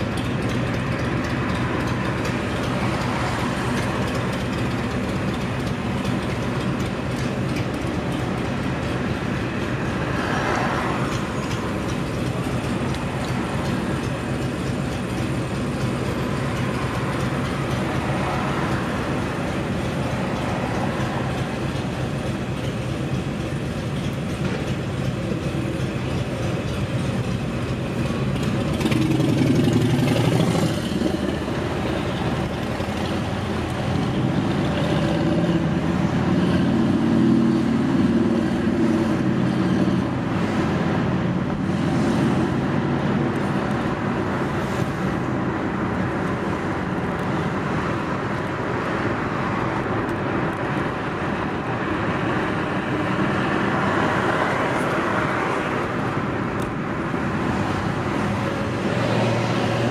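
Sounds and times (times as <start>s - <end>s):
car engine: 0.0s - 59.9s
road noise: 0.0s - 59.9s.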